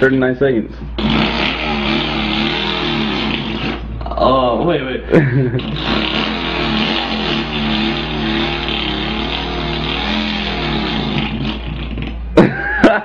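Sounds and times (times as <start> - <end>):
man imitating engine sound: 1.0 - 4.5, 5.2 - 13.0.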